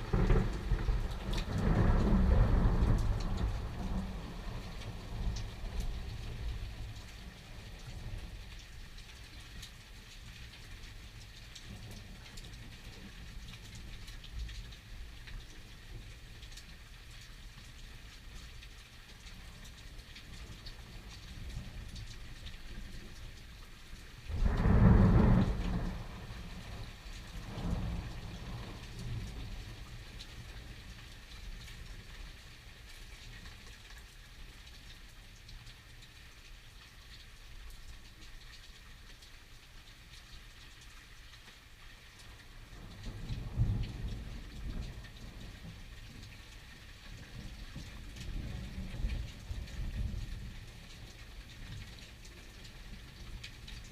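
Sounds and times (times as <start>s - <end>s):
rain drops pattering: 0.0s - 53.9s.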